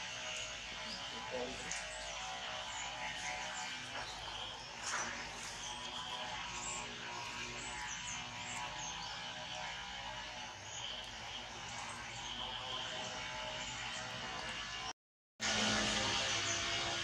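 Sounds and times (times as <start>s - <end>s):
outdoor hum and buzz: 0.0s - 17.0s.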